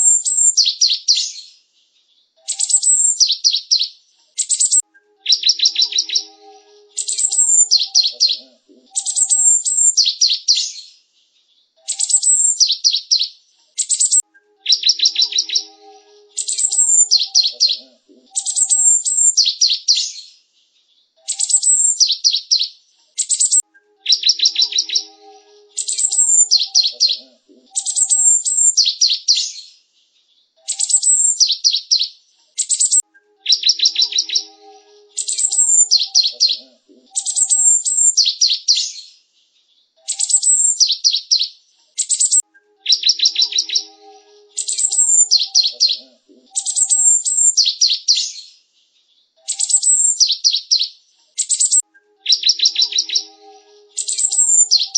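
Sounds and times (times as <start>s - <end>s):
bird chattering and trilling: 0.0s - 1.5s, 2.4s - 10.9s, 11.8s - 20.3s, 21.2s - 29.7s, 30.6s - 39.1s, 40.0s - 48.5s, 49.4s - 54.9s.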